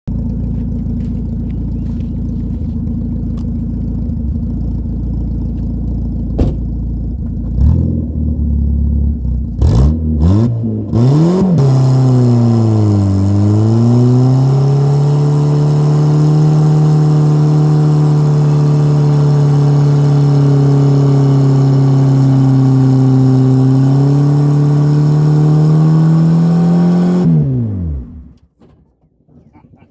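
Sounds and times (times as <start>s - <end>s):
pickup engine idling and revving: 0.0s - 28.7s.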